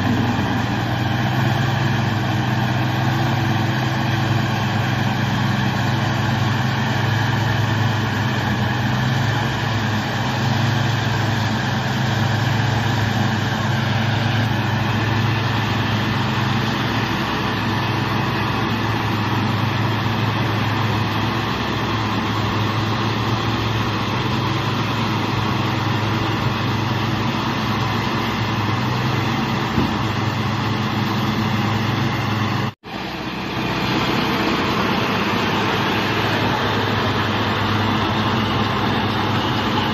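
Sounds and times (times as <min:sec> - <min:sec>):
tractor engine and baler drone: 0:00.0 - 0:39.9.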